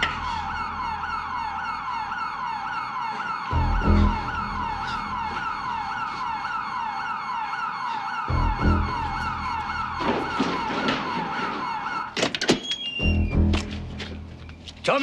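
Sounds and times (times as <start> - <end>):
electronic alarm siren: 0.0 - 13.8.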